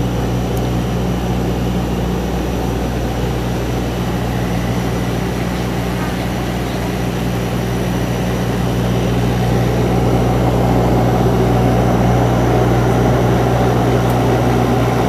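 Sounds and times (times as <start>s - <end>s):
propeller engines humming: 0.0s - 15.0s.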